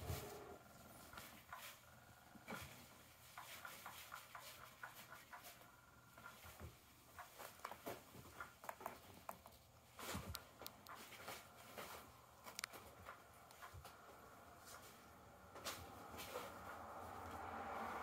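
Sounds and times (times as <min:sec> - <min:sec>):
kittens rustling and playing: 0:00.0 - 0:18.0.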